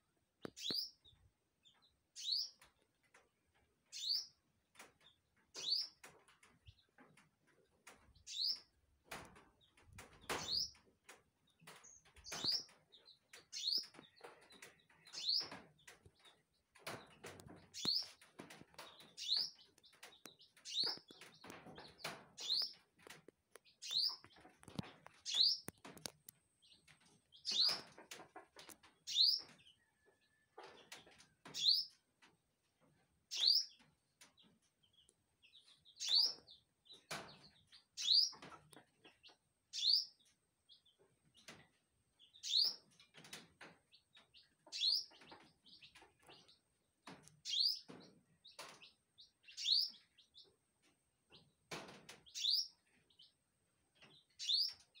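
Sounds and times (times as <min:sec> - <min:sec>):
small bird chirping: 0:00.4 - 0:02.9, 0:03.9 - 0:07.1, 0:08.1 - 0:08.8, 0:09.5 - 0:32.0, 0:33.3 - 0:55.0.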